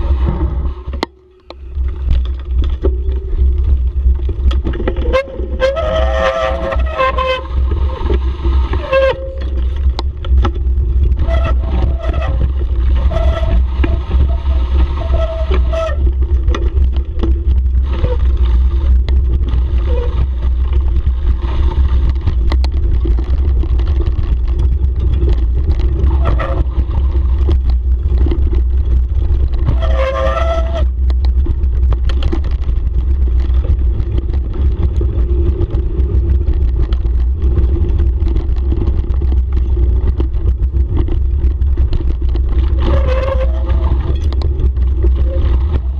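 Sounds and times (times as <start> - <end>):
bicycle rattling and knocking: 0.0 - 45.9
wind rumble on microphone: 0.0 - 45.9.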